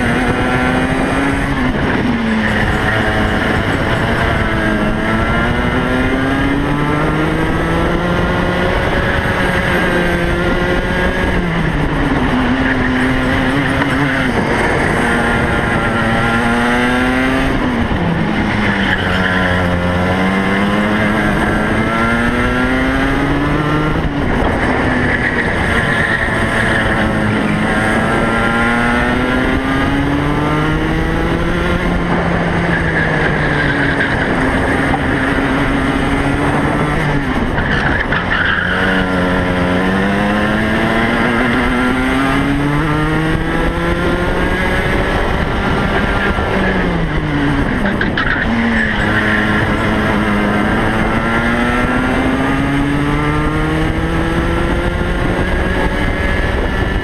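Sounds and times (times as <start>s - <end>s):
kart engine revving: 0.0s - 57.0s
wind and road noise: 0.0s - 57.0s.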